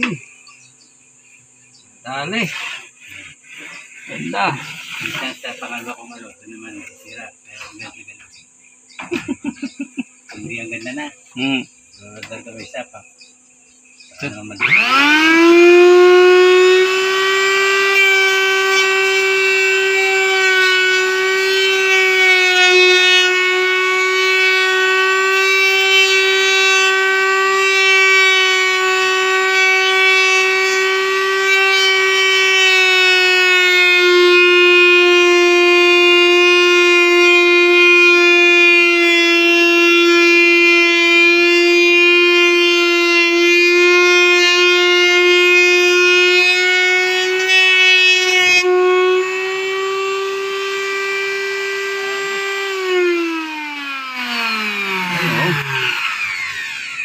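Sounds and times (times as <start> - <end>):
router cutter whining through wood: 0.0 - 57.0.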